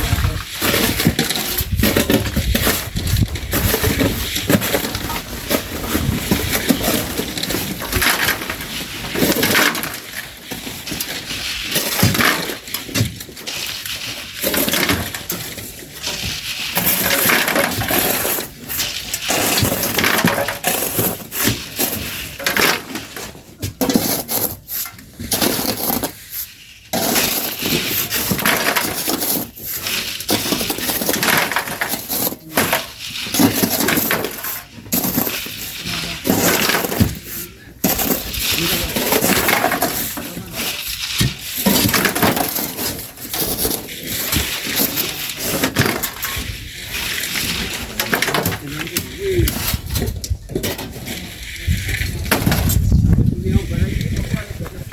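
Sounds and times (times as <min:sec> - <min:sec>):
shovels scraping sand and gravel: 0:00.0 - 0:54.9
stones clinking and rattling: 0:00.0 - 0:54.9.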